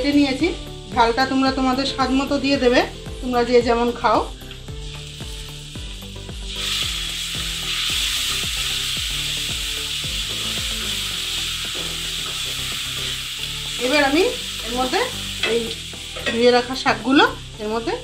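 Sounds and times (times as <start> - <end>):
potato sticks sizzling in oil: 0.0 - 18.0.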